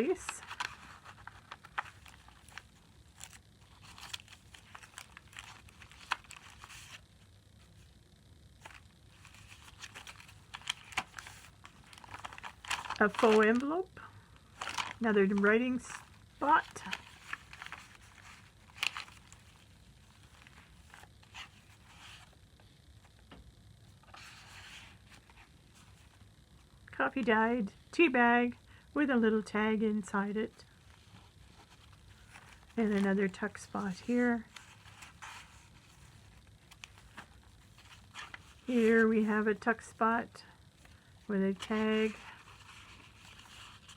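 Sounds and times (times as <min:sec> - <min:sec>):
paper rustling and crinkling: 0:00.0 - 0:07.9, 0:08.6 - 0:13.8, 0:14.4 - 0:22.4, 0:24.0 - 0:26.3, 0:30.7 - 0:39.8, 0:40.8 - 0:43.9.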